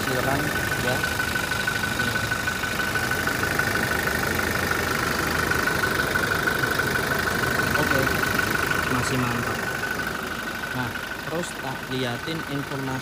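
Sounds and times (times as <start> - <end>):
diesel engine idling: 0.0 - 13.0
steady high whine: 0.0 - 13.0.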